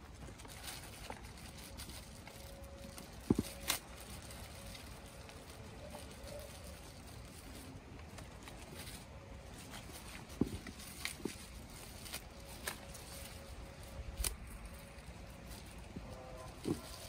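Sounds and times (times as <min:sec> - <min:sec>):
fruit bags rustling: 0:00.0 - 0:17.0.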